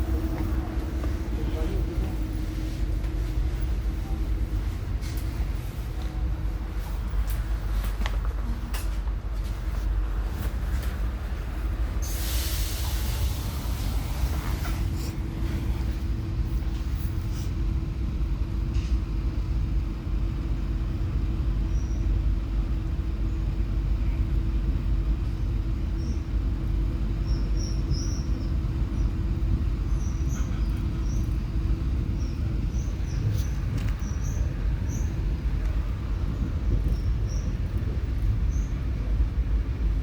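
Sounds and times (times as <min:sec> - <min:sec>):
train rumbling along track: 0:00.0 - 0:40.0.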